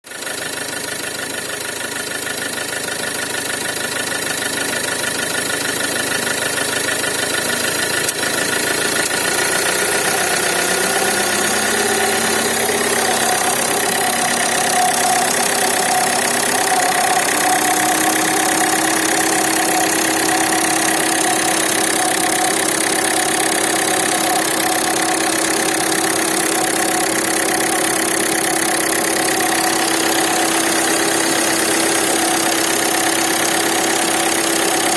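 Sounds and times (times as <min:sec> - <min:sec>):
diesel engine idling: 0:01.8 - 0:34.9.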